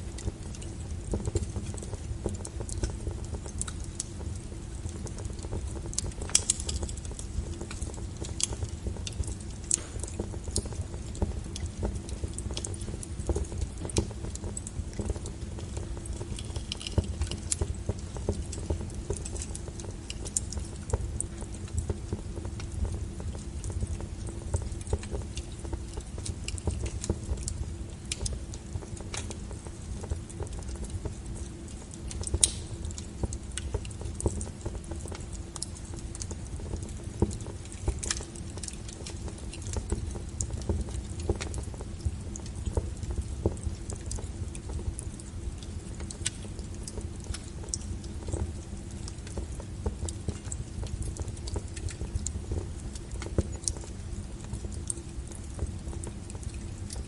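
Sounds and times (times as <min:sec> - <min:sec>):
burning logs crackling: 0:00.0 - 0:57.0
flames rumbling: 0:00.0 - 0:57.0.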